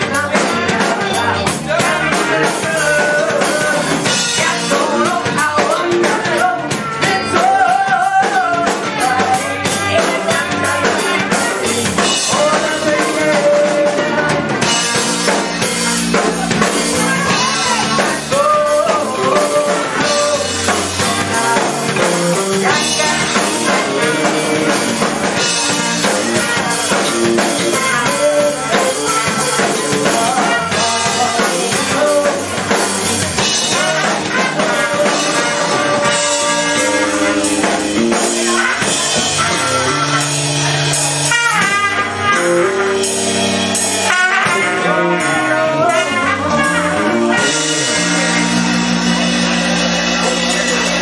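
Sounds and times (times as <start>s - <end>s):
person singing into a microphone: 0.0s - 43.1s, 44.1s - 49.7s
live rock band playing: 0.0s - 51.0s
trumpet: 0.0s - 51.0s.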